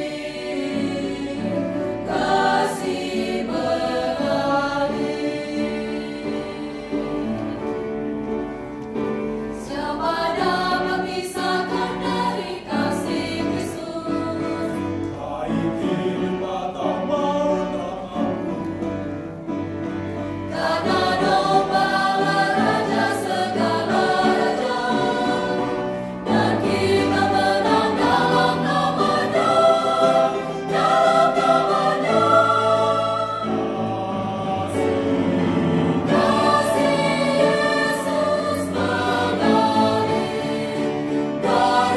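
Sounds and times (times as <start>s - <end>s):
mixed choir singing: 0.0s - 41.9s.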